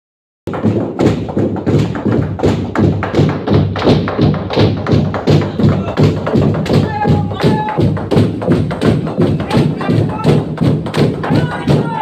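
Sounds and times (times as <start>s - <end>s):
log drum deep ringing thuds: 0.5s - 12.0s.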